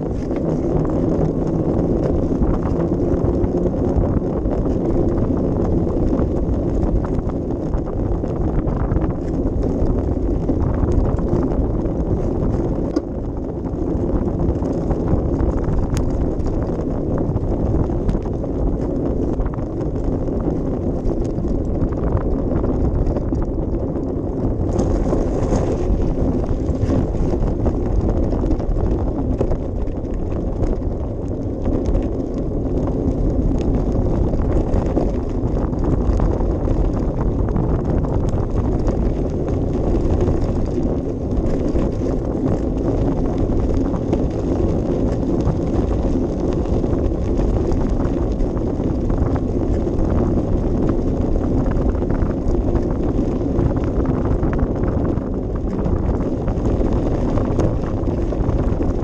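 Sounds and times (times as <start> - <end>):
steady rumble: 0.0 - 59.0
wind buffeting microphone: 0.0 - 59.0.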